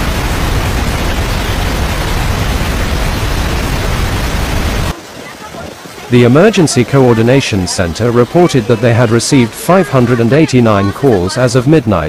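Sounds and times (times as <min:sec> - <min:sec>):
water pouring and splashing: 0:00.0 - 0:12.0.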